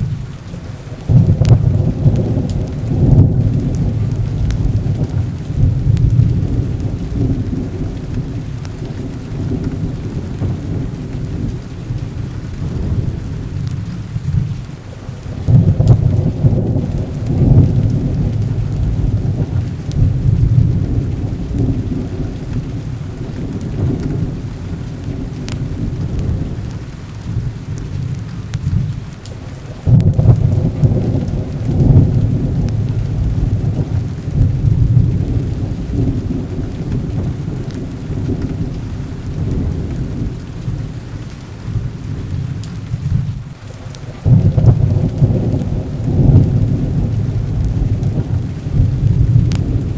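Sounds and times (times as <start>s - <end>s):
heavy rain falling: 0.0s - 49.9s
low rolling thunder: 0.0s - 49.9s.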